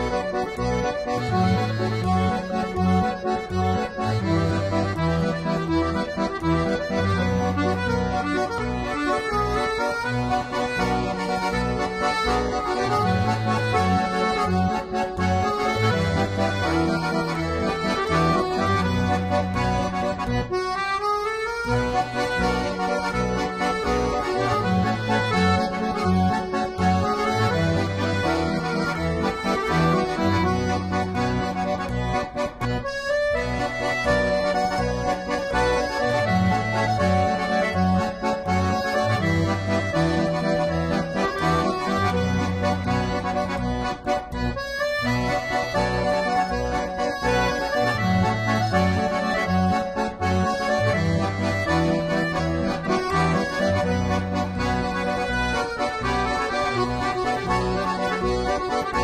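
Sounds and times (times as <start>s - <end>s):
instrumental background music: 0.0s - 59.0s.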